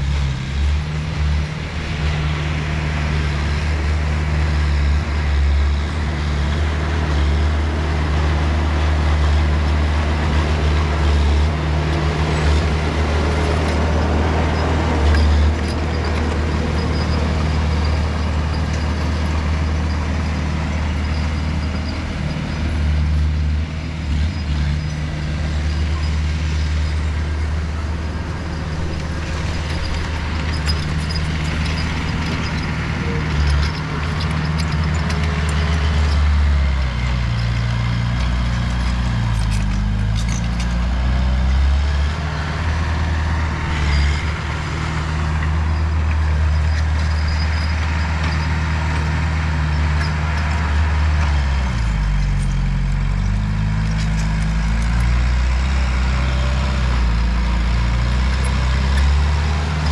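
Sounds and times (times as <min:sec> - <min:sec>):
heavy diesel engine rumbling: 0:00.0 - 0:59.9.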